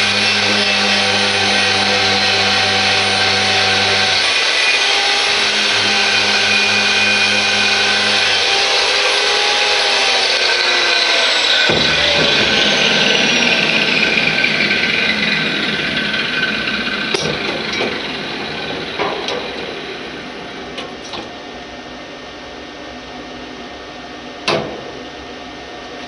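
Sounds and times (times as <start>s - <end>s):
power tool whirr winding down: 0.0s - 21.1s.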